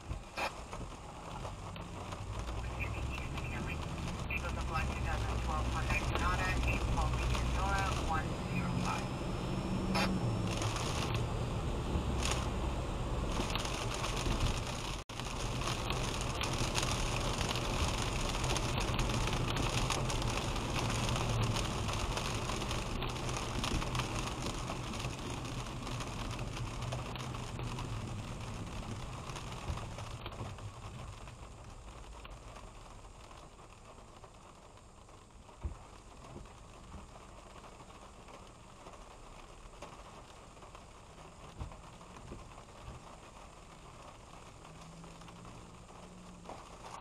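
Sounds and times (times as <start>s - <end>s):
low car hum: 0.0s - 47.0s
raindrops hitting windshield: 0.0s - 47.0s
tyres hissing on wet road: 0.0s - 47.0s.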